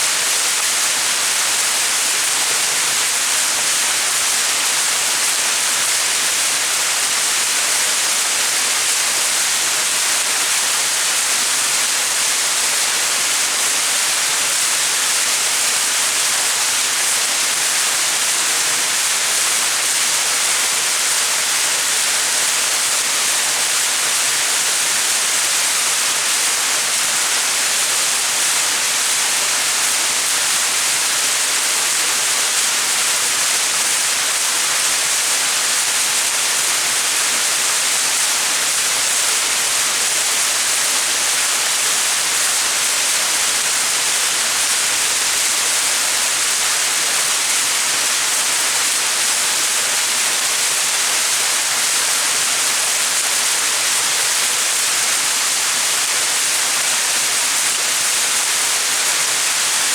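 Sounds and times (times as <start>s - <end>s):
waterfall rushing hiss: 0.0s - 59.9s.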